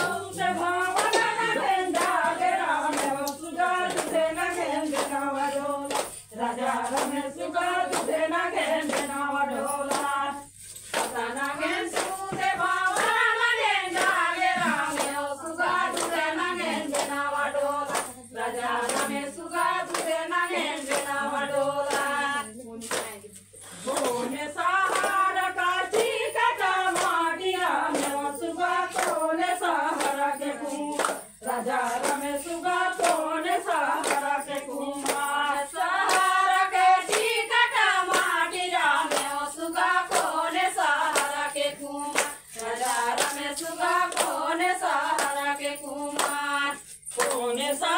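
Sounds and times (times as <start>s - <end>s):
group of women singing folk song: 0.0s - 47.9s
hands clapping in steady rhythm: 0.0s - 47.9s.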